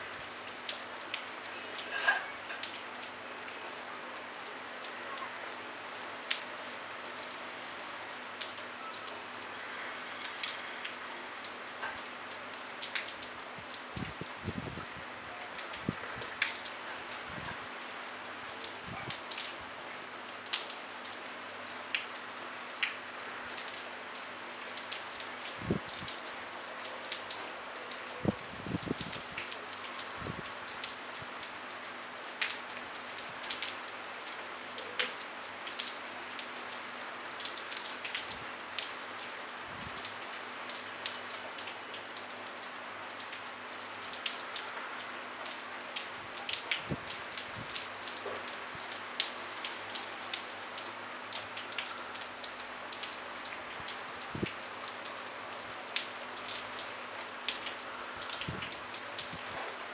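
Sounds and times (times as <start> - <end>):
light rain hissing: 0.0 - 59.9.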